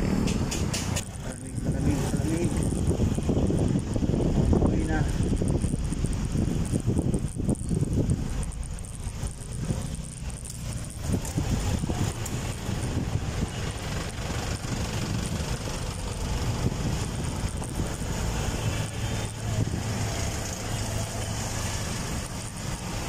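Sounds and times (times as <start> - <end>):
road noise: 0.0 - 23.0
wind noise: 0.0 - 23.0.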